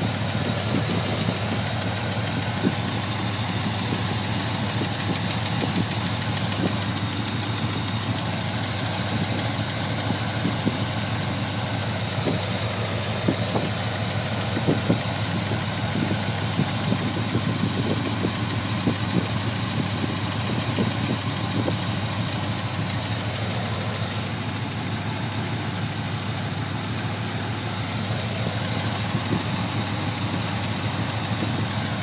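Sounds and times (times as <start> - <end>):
car engine idling: 0.0 - 32.0
engine ticking: 0.0 - 32.0.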